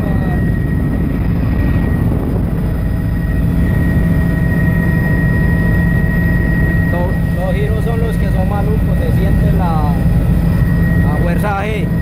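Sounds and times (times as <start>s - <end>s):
helicopter engine and rotor drone: 0.0s - 12.0s
high whine: 0.0s - 12.0s.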